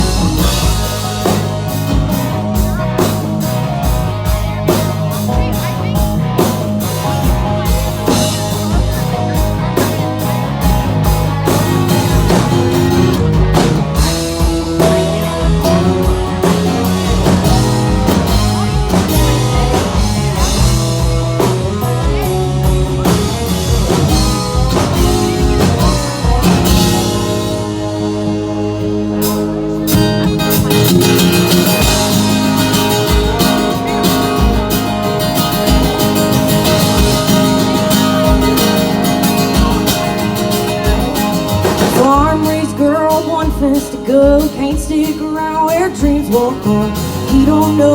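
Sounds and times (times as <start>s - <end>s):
country band playing: 0.0s - 47.9s.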